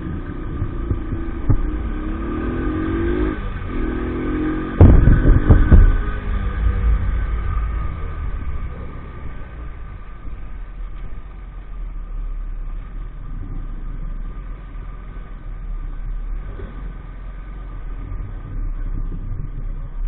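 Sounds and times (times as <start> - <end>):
low rumble: 0.0 - 20.0
moped engine running: 0.0 - 20.0.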